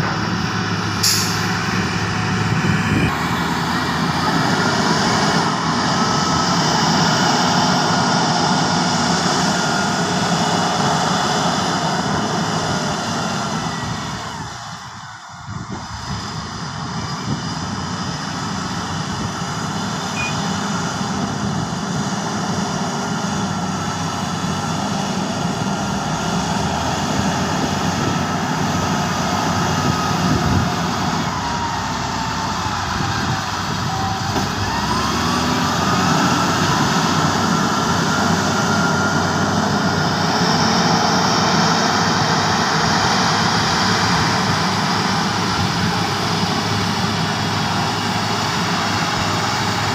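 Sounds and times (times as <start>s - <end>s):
heavy diesel machinery engines: 0.0s - 49.9s.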